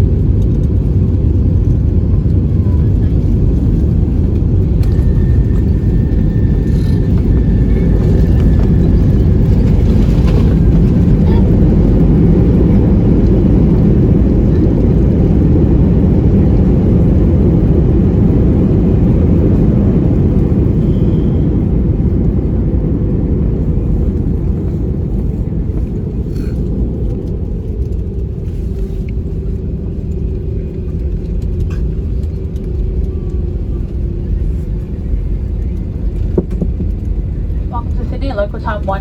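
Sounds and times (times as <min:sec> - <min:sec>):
airliner cabin rumble: 0:00.0 - 0:39.0
steady hum: 0:00.0 - 0:39.0.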